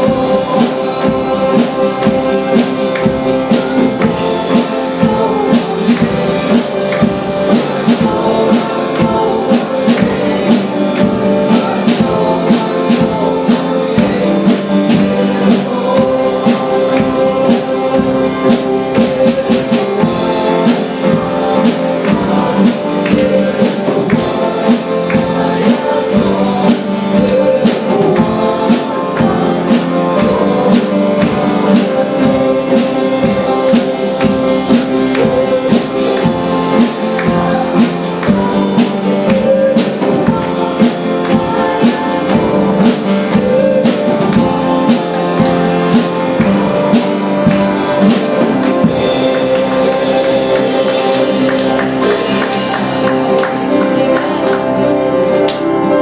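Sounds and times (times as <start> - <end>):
drum kit: 0.0 - 56.0
guitar: 0.0 - 56.0
person singing: 0.0 - 56.0.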